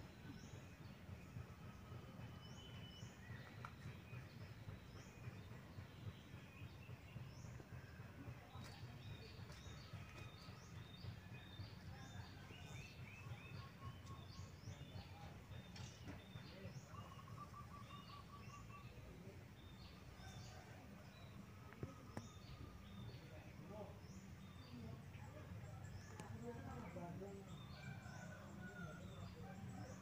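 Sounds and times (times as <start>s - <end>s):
low background noise: 0.0s - 30.0s.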